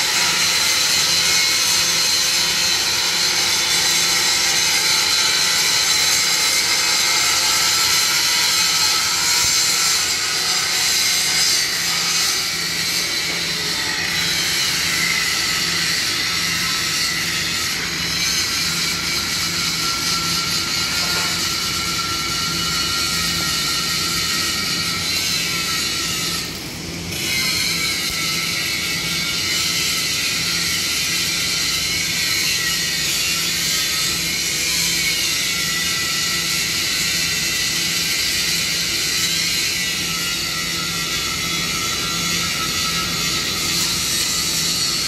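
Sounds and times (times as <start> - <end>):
welding arc crackling hiss: 0.0 - 45.0.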